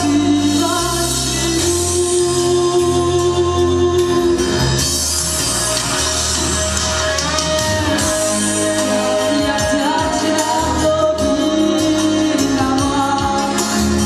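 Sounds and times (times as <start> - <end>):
person singing: 0.0 - 5.1, 7.0 - 14.0
instrumental music: 0.0 - 14.0.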